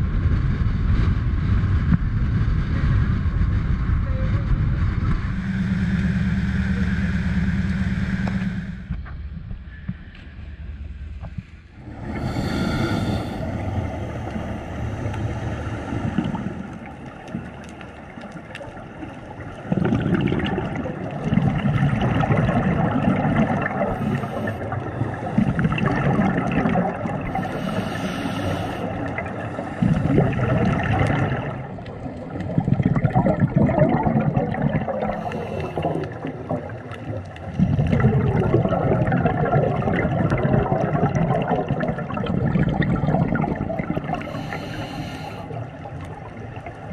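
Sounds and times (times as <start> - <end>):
underwater regulator bubbling: 4.1 - 9.1, 11.2 - 46.9.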